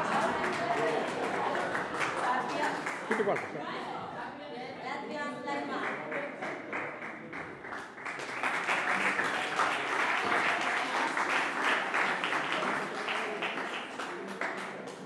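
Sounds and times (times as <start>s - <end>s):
people applauding: 0.0s - 3.6s, 5.8s - 15.0s.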